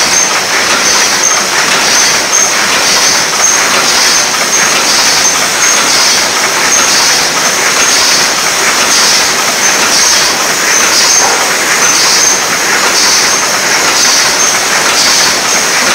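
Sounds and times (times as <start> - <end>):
machine mechanical clatter: 0.0 - 15.9.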